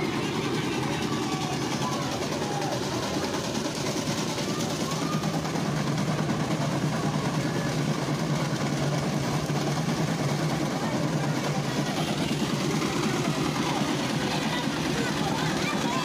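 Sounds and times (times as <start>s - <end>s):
engine droning: 0.0s - 16.0s
steady rushing noise: 0.0s - 16.0s.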